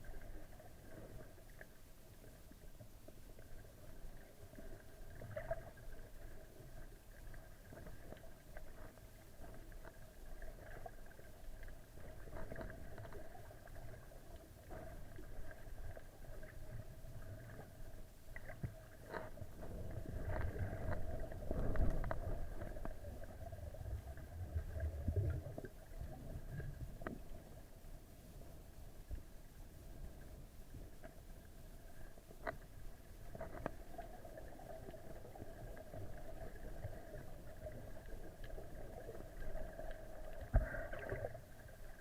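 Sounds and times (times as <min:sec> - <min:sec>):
faint steady hum: 0:00.0 - 0:42.0
low underwater rumble: 0:00.0 - 0:42.0.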